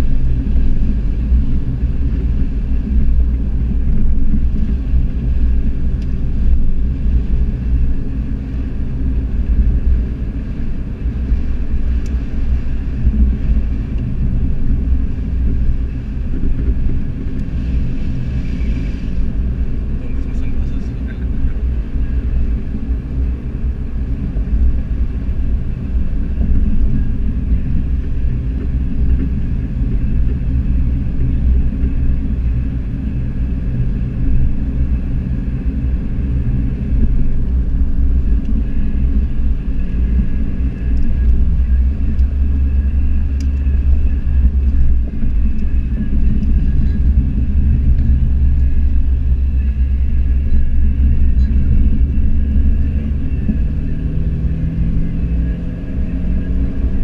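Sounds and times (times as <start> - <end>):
car engine and road drone: 0.0 - 57.0.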